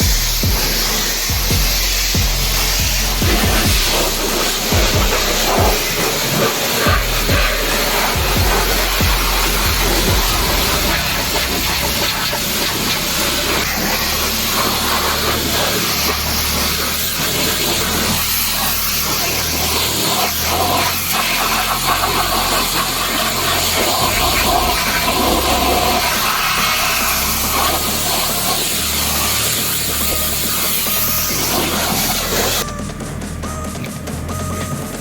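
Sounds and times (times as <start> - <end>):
pressure washer spraying: 0.0 - 32.8.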